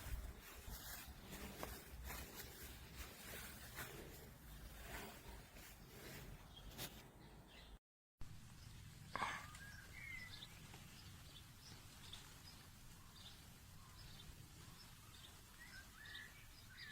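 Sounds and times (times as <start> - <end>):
birds chirping: 0.0 - 7.8, 8.6 - 16.9.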